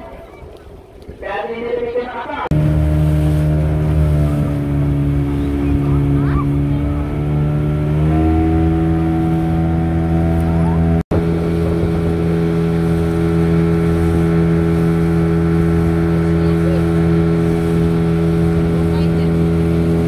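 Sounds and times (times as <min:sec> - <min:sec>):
motorboat engine humming: 0:00.0 - 0:20.0.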